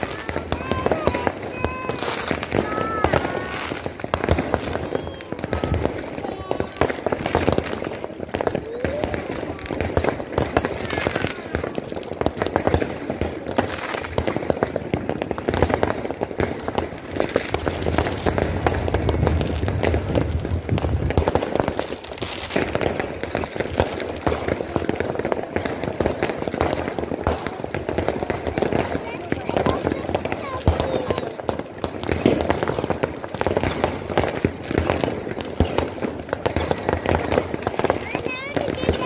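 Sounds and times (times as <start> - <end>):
fireworks bangs and crackles: 0.0 - 39.0
heavy low firework booms: 0.0 - 39.0.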